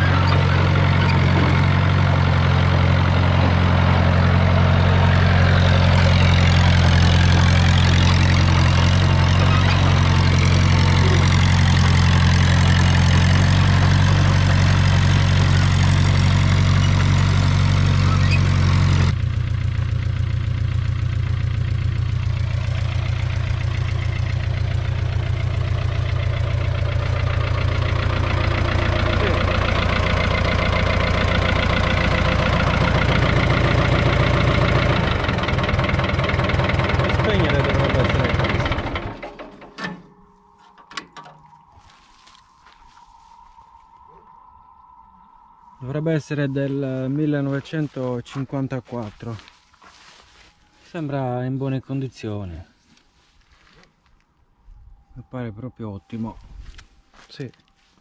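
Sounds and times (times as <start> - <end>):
diesel engine running: 0.0 - 51.2.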